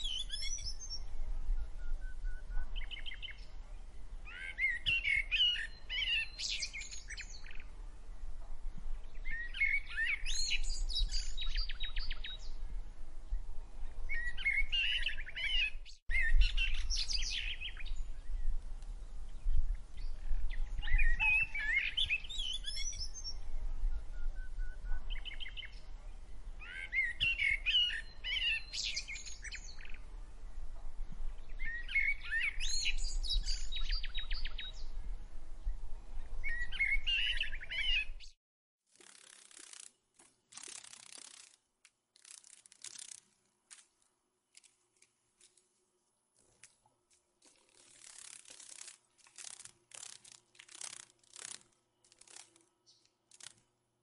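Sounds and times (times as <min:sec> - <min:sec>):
songbirds chirping: 0:00.0 - 0:38.3, 0:43.9 - 0:53.9.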